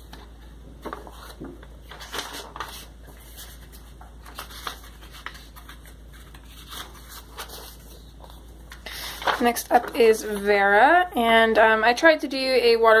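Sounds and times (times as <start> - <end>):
paper pages rustling: 0.0 - 10.7.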